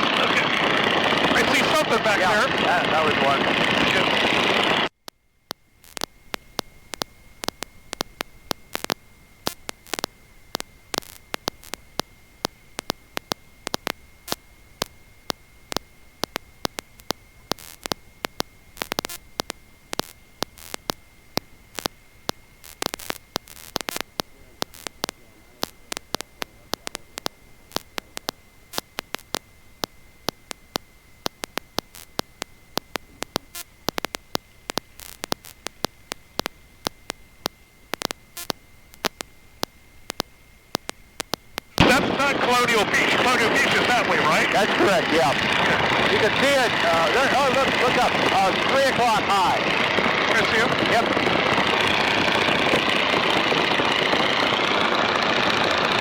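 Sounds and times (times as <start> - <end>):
high-pitched whine: 0.0 - 56.0
static crackling clicks: 0.0 - 56.0
faint hiss: 5.5 - 51.1.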